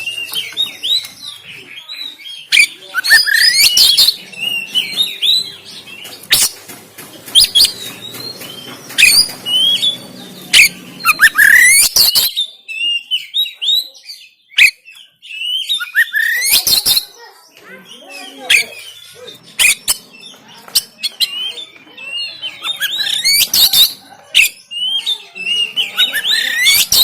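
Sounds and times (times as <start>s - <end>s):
bird singing: 0.0s - 27.0s.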